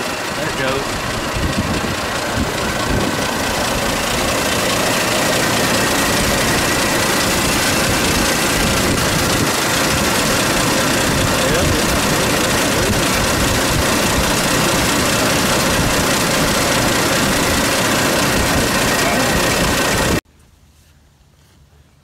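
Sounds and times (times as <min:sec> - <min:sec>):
car engine idling: 0:00.0 - 0:20.2.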